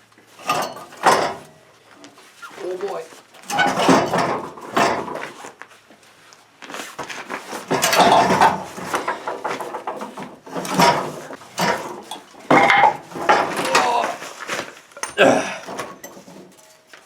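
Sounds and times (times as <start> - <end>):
metal clunking and scraping: 0.3 - 5.6, 6.9 - 17.0.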